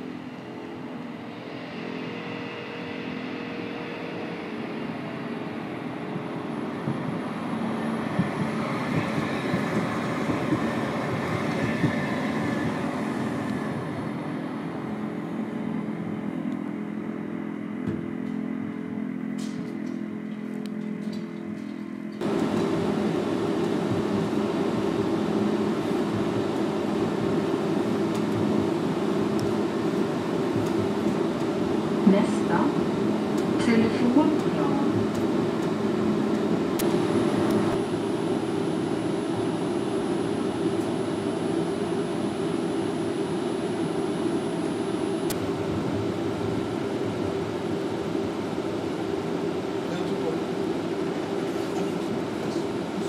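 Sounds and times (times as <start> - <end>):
rail and road noise: 0.0 - 53.0
tram cabin hum: 0.0 - 53.0
tram humming: 0.0 - 53.0.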